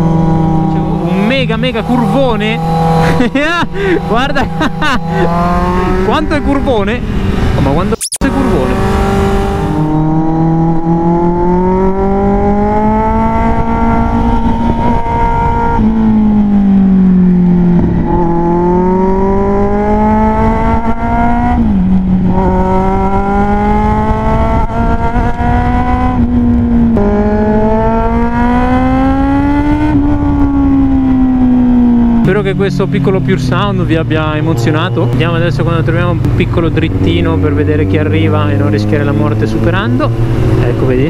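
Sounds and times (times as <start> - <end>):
motorcycle engine revving: 0.0 - 41.0
wind rushing past microphone: 4.4 - 32.3, 33.2 - 41.0.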